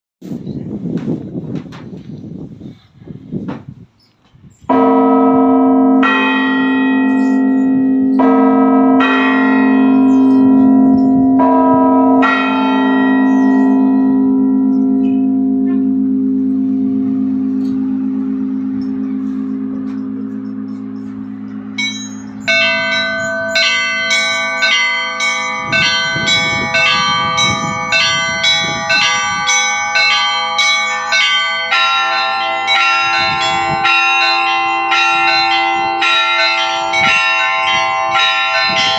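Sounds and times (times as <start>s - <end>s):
deep church bells ringing: 4.7s - 38.9s
smaller higher bells ringing: 4.7s - 38.9s.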